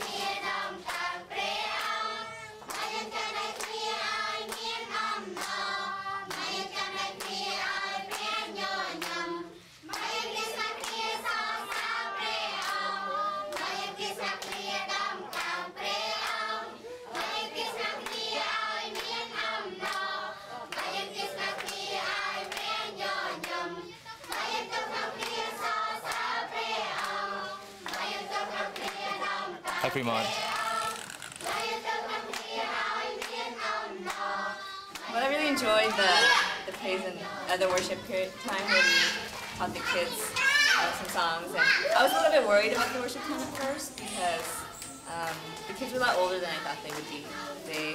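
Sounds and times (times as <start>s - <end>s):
hands clapping: 0.0s - 15.6s, 16.2s - 16.5s, 17.1s - 34.3s, 34.9s - 35.2s, 36.7s - 47.9s
children singing: 0.0s - 47.9s.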